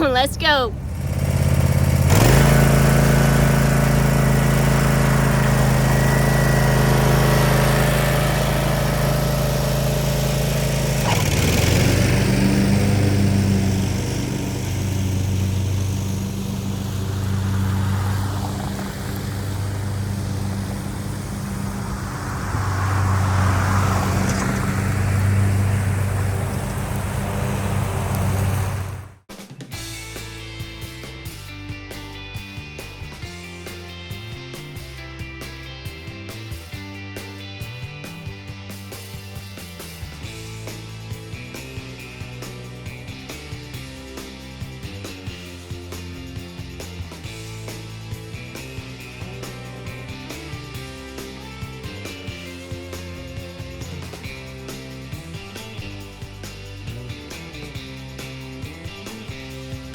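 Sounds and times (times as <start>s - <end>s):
engine running: 0.0s - 29.3s, 38.8s - 59.9s.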